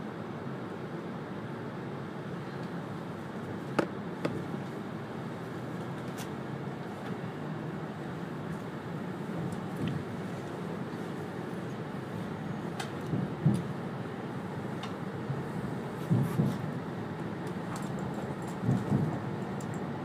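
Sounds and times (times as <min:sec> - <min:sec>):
train cabin running noise: 0:00.0 - 0:20.0.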